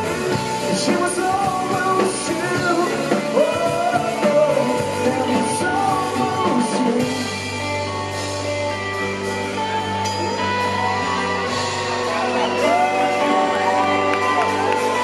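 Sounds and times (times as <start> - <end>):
bass guitar: 0.0 - 15.0
drums: 0.0 - 15.0
electric guitar: 0.0 - 15.0.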